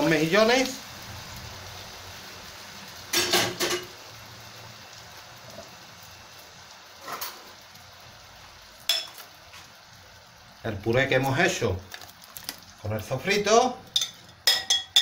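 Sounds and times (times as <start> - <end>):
pot bubbling: 0.0 - 15.0.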